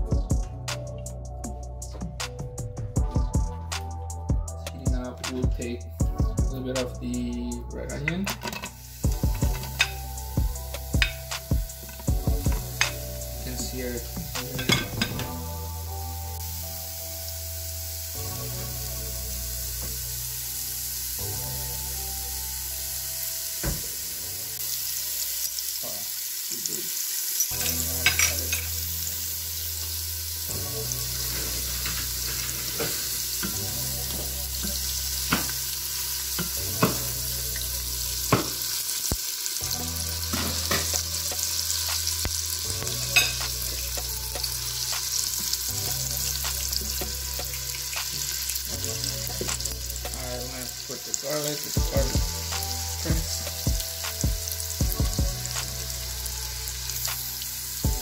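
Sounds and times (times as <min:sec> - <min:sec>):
onion sizzling in oil: 0:07.9 - 0:58.0.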